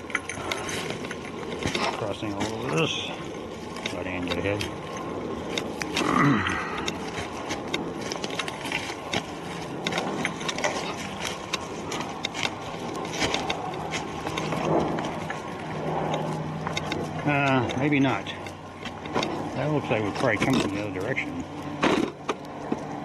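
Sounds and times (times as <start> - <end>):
footsteps crunching through forest litter: 0.0 - 6.0, 6.6 - 21.8.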